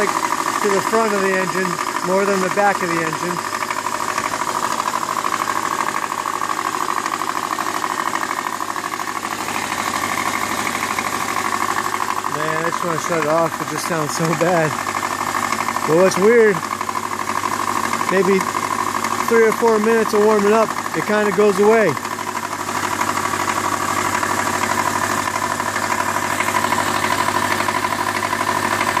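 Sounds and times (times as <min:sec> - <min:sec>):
engine idling with rapid knocking: 0:00.0 - 0:29.0.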